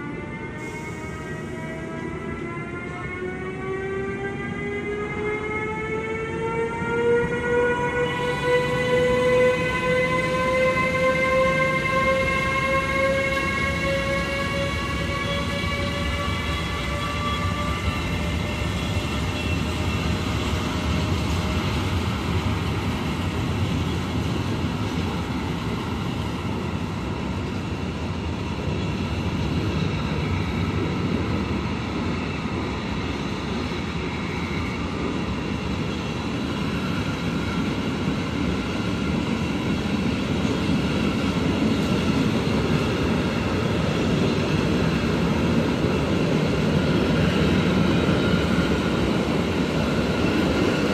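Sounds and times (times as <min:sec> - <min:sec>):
electric locomotive whine: 0:00.0 - 0:50.9
train wheels rumbling on rails: 0:00.1 - 0:50.9.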